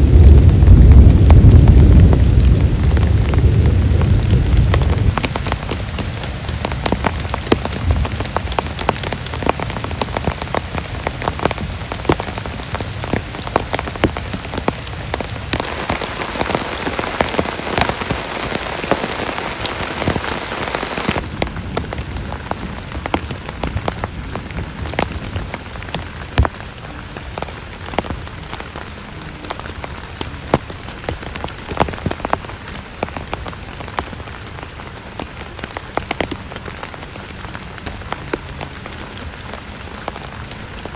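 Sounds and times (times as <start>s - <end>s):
heavy rain falling: 0.0s - 40.9s
raindrops striking hard surface: 0.0s - 40.9s.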